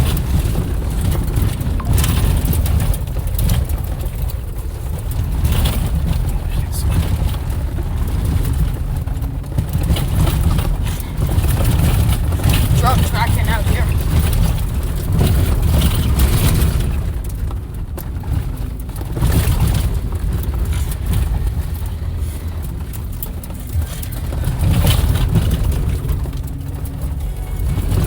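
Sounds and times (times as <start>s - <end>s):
knocks and rattles: 0.0s - 28.0s
vehicle engine and tyres rumbling: 0.0s - 28.0s.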